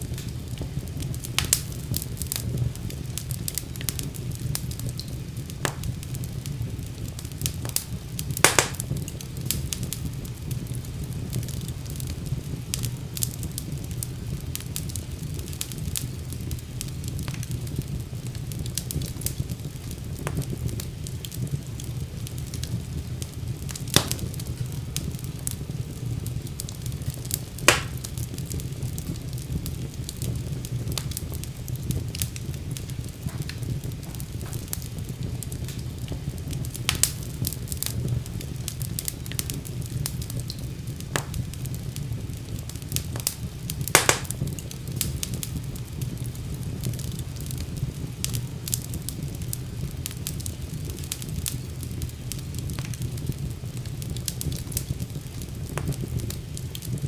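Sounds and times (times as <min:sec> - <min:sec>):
fireplace fire crackling and popping: 0:00.0 - 0:57.0.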